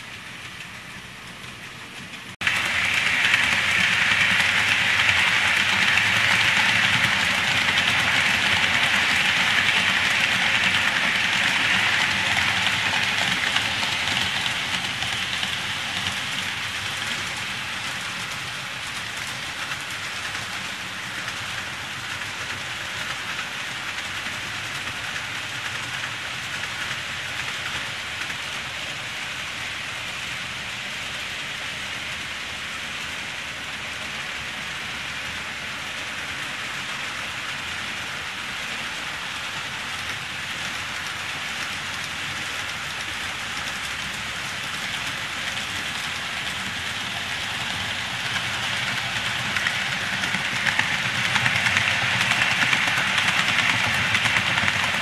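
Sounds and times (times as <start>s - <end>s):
model trains rolling on track: 0.0s - 55.0s.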